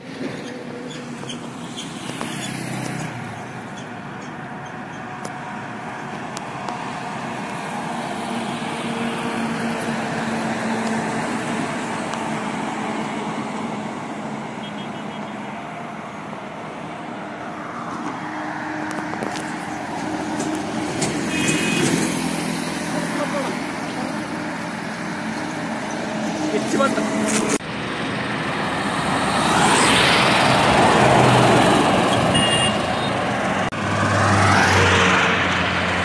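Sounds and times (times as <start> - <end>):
bus engine hum and tyre rush: 0.0 - 36.0
highway traffic noise: 0.0 - 36.0.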